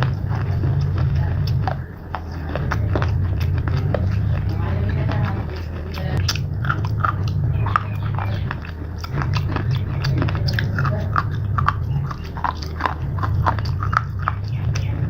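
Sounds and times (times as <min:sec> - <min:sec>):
crunchy chewing: 0:00.0 - 0:15.0
low steady hum: 0:00.0 - 0:15.0.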